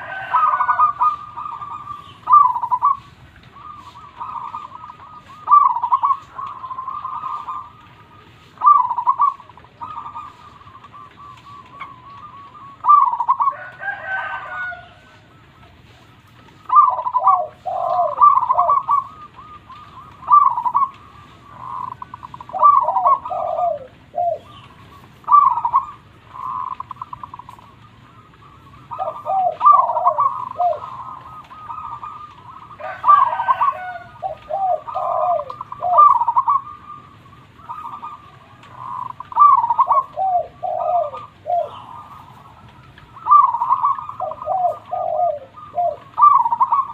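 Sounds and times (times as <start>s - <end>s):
doves cooing: 0.0s - 46.9s.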